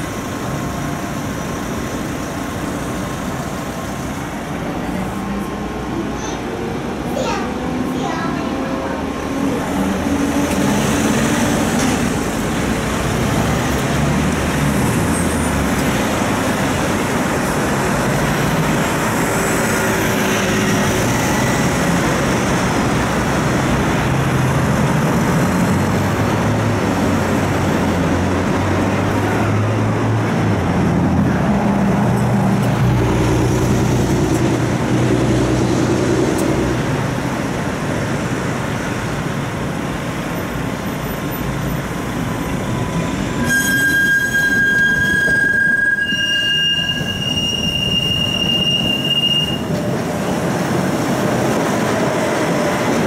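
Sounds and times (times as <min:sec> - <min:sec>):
cars and vans passing: 0:00.0 - 0:53.0
tram running noise: 0:00.0 - 0:53.0.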